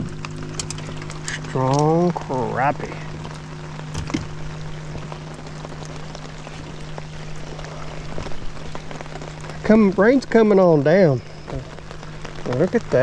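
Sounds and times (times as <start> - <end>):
low steady hum: 0.0 - 13.0
rain falling on water: 0.0 - 13.0.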